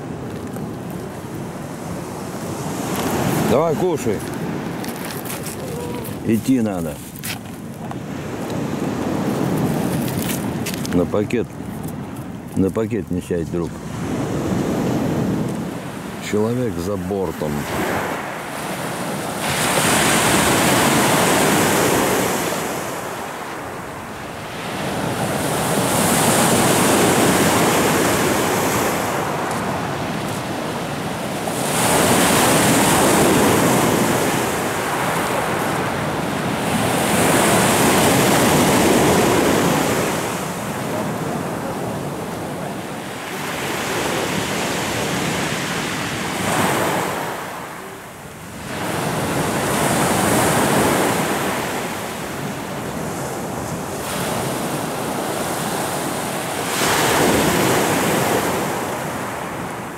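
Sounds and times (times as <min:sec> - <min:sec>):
surf on pebble beach: 0:00.0 - 0:59.9.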